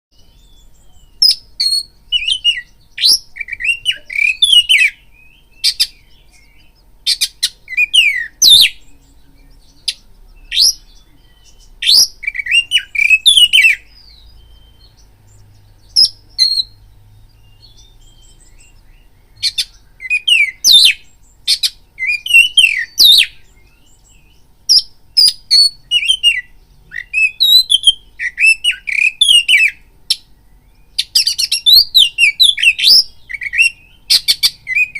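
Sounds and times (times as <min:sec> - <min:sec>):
bird singing whistled notes: 0:00.1 - 0:34.9.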